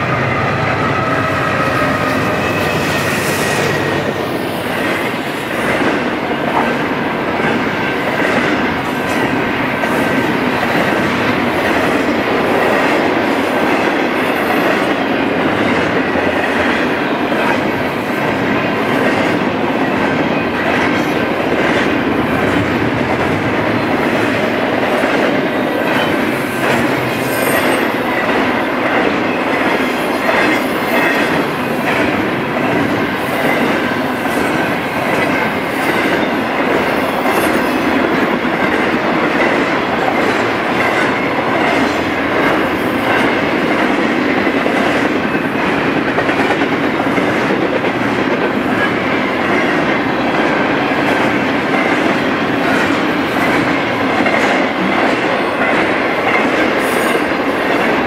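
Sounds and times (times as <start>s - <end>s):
wheels clickety-clack over rail joints: 1.8s - 58.0s.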